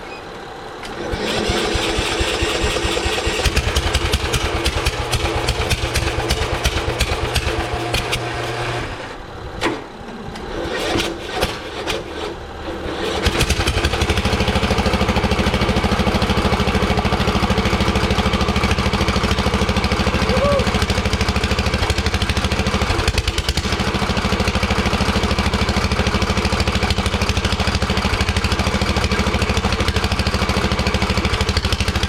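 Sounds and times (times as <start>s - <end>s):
lawn tractor engine starting: 0.0s - 32.0s.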